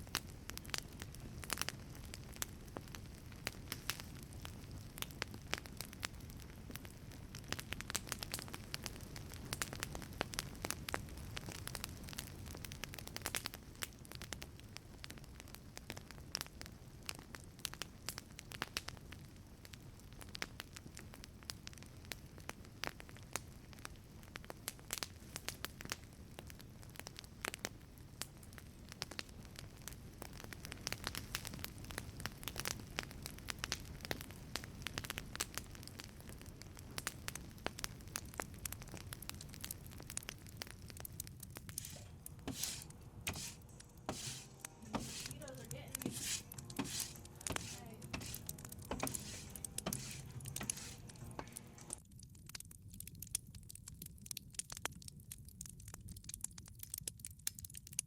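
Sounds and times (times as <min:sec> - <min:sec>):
low roar of flame: 0:00.0 - 0:52.1
burning wood popping and snapping: 0:00.0 - 0:58.0.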